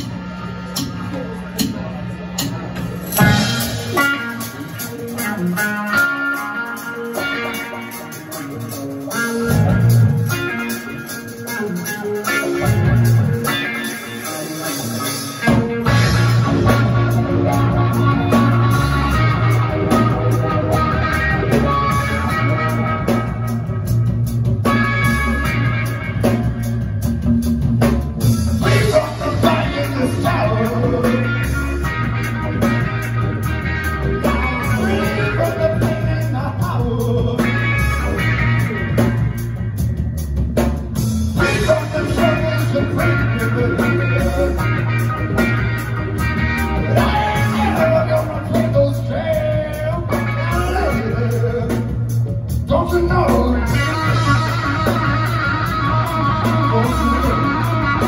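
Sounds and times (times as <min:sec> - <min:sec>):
bass guitar: 0:00.0 - 0:58.0
distorted electric guitars: 0:00.0 - 0:58.0
drum kit beat: 0:00.0 - 0:58.0.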